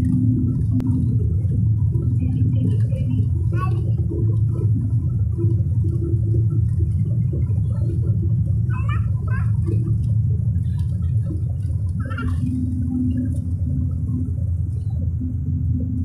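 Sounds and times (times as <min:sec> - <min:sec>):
airliner engines and wheels rumbling: 0:00.0 - 0:16.0
cabin hum: 0:00.0 - 0:16.0.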